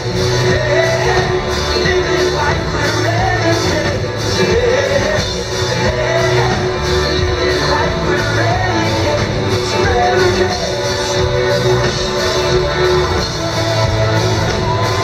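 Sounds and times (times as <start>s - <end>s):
drums: 0.0s - 15.0s
guitar: 0.0s - 15.0s
man singing: 0.0s - 15.0s.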